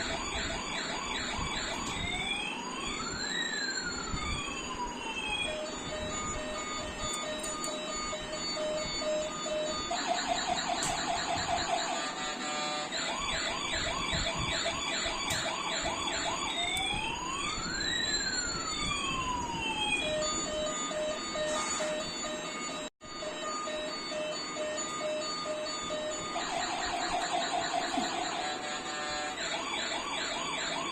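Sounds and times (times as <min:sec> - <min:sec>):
toy police car siren: 0:00.0 - 0:30.9.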